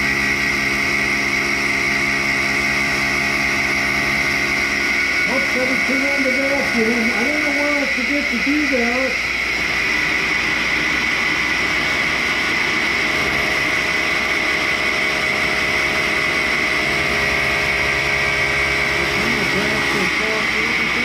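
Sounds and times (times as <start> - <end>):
grinder high-pitched whine: 0.0 - 21.0.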